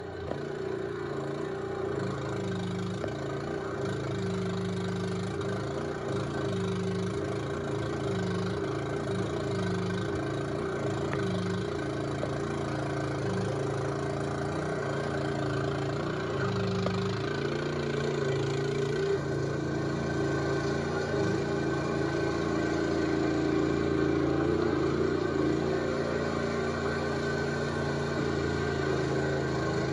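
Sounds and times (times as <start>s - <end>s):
skid steer loader engine running: 0.0s - 29.9s.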